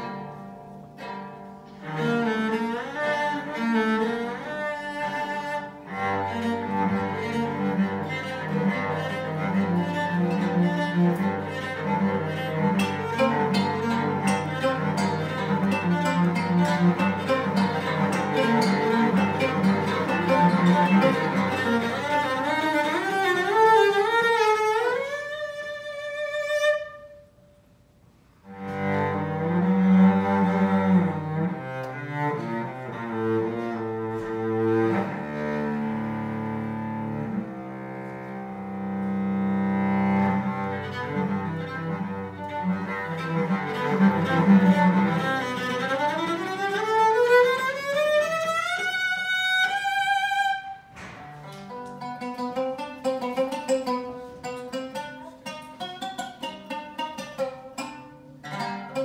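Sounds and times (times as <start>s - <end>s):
bowed cello: 0.0s - 59.0s.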